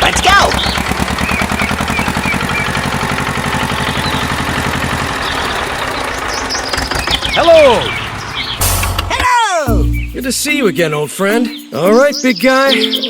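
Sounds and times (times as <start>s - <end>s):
engine idling: 0.0s - 10.6s.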